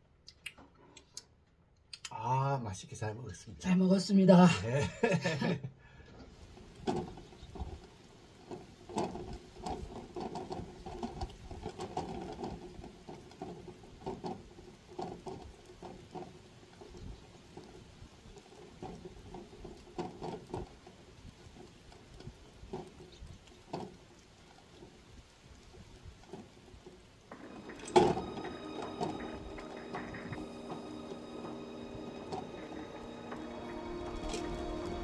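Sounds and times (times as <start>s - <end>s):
crackles and rustles: 6.0s - 35.0s.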